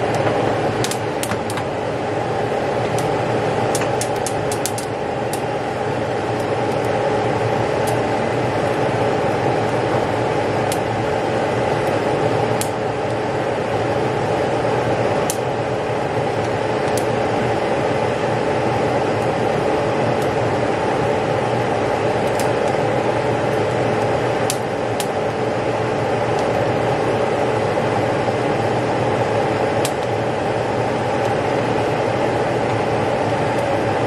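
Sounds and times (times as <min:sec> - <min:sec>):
gas burners rushing: 0:00.0 - 0:34.0.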